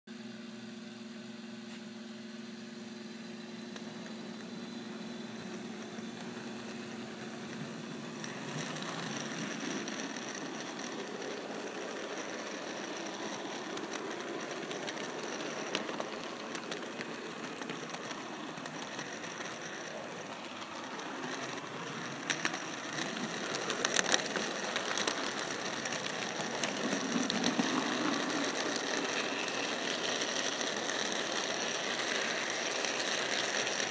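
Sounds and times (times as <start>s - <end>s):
model train motor humming: 2.6s - 33.9s
wheels rattling on rails: 3.8s - 33.9s.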